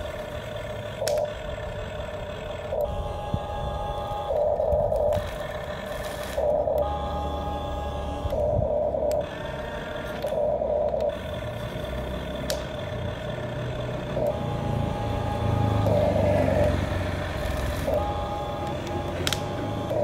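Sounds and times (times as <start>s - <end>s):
electronic tone: 0.0s - 11.8s, 14.0s - 20.0s
toy excavator motors humming: 0.0s - 20.0s.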